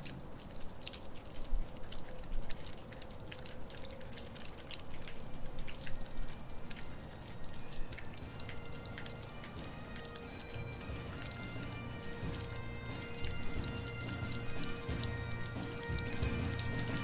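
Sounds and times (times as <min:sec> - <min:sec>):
rain hiss: 0:00.0 - 0:17.0
water dripping from roof: 0:00.0 - 0:17.0.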